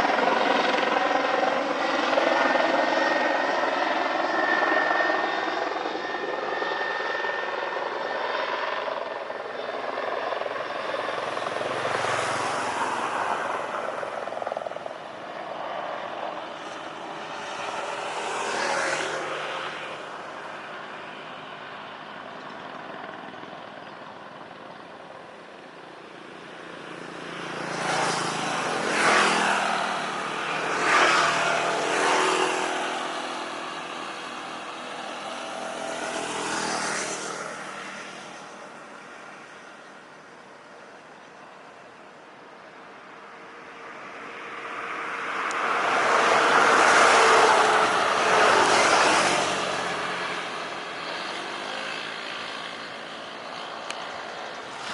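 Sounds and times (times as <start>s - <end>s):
jet engine whine: 0.0s - 54.9s
road vehicles passing: 0.0s - 54.9s.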